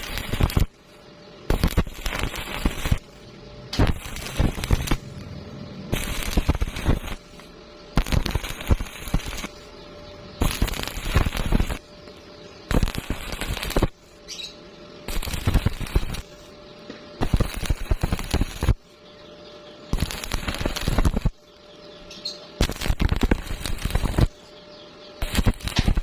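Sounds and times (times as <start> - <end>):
welding arc crackling: 0.0 - 16.6, 17.2 - 18.9, 19.8 - 21.5, 22.1 - 24.5, 25.2 - 26.0.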